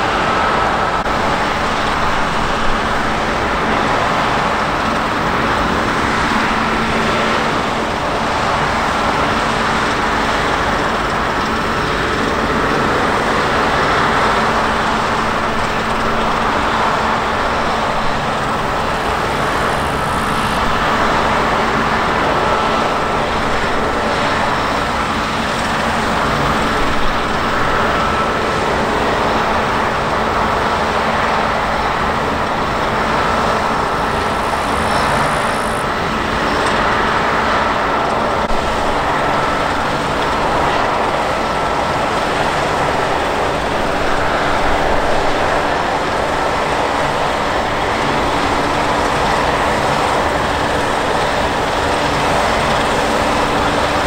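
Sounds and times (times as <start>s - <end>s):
combine harvester machine noise: 0.0s - 54.0s
faint steady whine: 0.0s - 54.0s.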